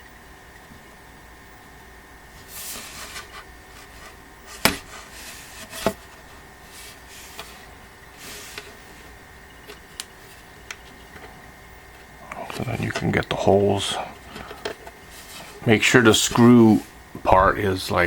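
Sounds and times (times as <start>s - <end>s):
parts scraping: 2.3s - 17.7s.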